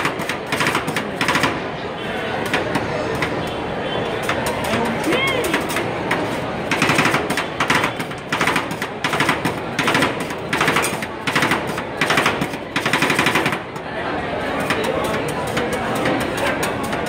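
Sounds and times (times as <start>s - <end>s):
metal spatulas clacking on steel plate: 2.4s - 17.0s.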